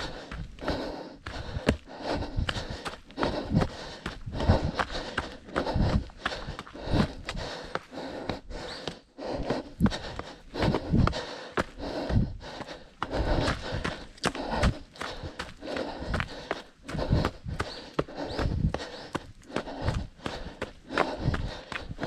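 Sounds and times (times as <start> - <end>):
runner breathing: 0.0 - 22.0
runner's footsteps: 0.0 - 22.0.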